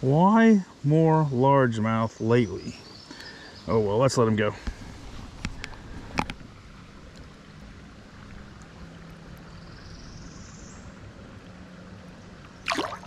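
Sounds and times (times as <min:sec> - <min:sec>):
flowing creek water: 0:00.0 - 0:13.0.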